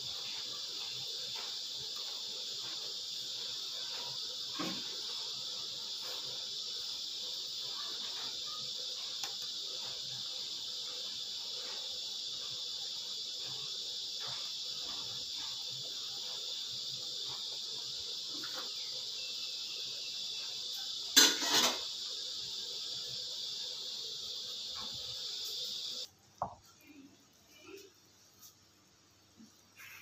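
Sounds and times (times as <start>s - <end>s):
soup bubbling at a rolling boil: 0.0s - 26.1s
steady high hiss: 0.0s - 30.0s.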